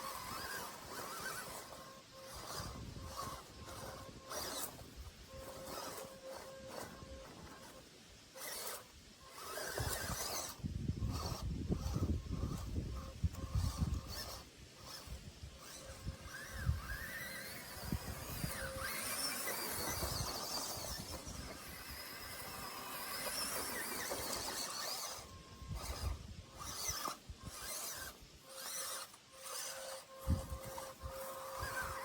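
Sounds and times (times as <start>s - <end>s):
rc truck electric motor whining: 0.0s - 32.0s.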